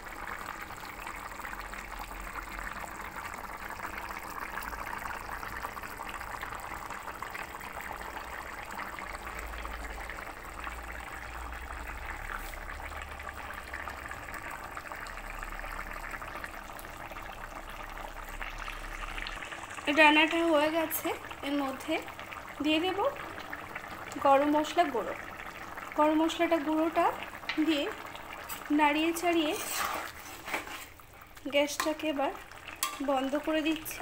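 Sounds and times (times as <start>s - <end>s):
gravy bubbling in a pan: 0.0s - 34.0s.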